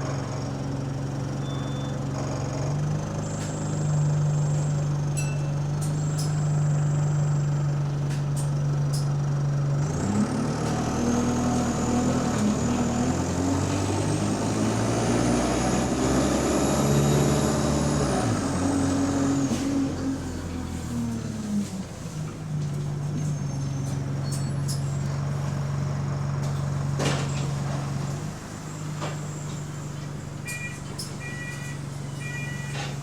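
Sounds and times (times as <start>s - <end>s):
bus engine humming: 0.0s - 33.0s
high whine of accelerating bus: 0.0s - 33.0s.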